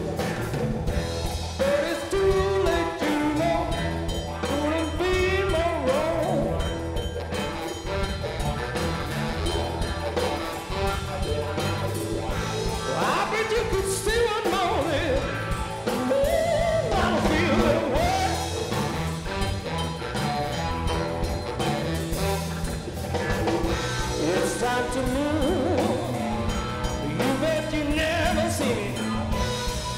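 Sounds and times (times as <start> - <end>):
blues-rock band playing: 0.0 - 29.9
sliding lead guitar line: 0.0 - 29.9.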